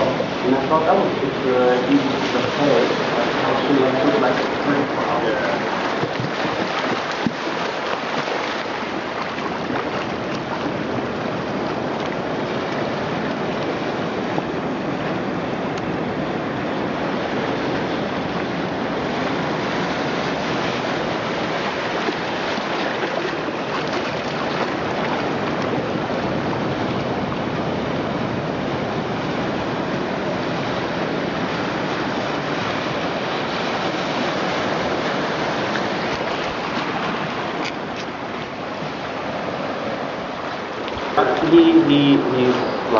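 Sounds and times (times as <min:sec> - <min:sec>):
ocean surf through loudspeakers: 0:00.0 - 0:42.9.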